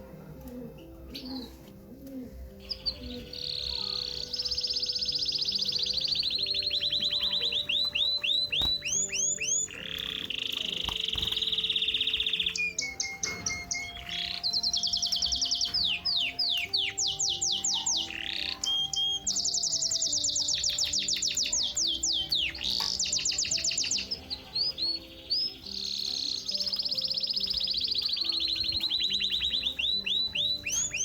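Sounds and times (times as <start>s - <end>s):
soft background music: 0.0s - 31.0s
songbird singing trills: 2.5s - 31.0s.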